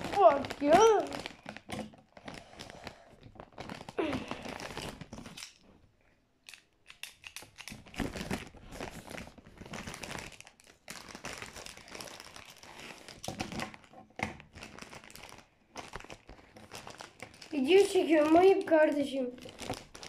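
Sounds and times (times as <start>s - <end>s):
plastic chip bag crinkling: 0.0s - 5.8s, 6.4s - 20.0s.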